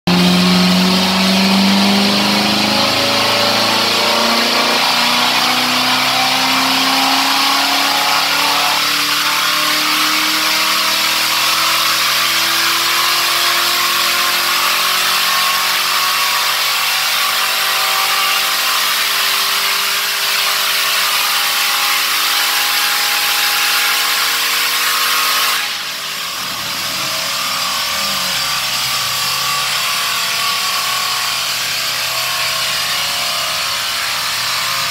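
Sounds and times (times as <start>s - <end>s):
car engine at full throttle: 0.0s - 34.9s.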